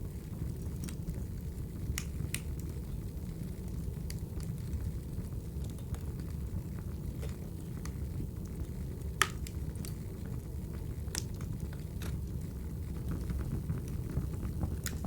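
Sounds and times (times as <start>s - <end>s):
fire flames rumbling: 0.0s - 15.0s
fire popping and snapping: 0.0s - 15.0s.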